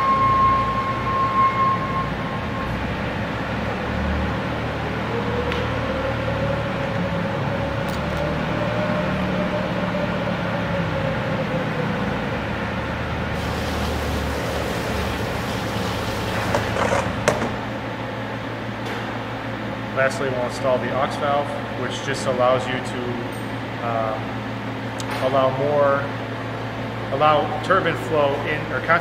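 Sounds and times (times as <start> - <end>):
factory machinery humming: 0.0 - 29.0.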